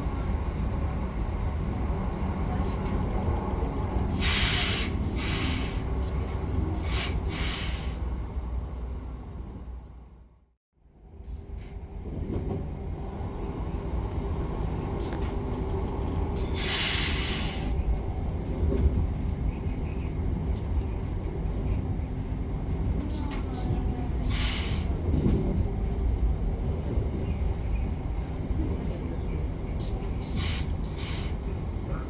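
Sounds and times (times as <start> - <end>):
electric train rumbling on rails: 0.0 - 32.0.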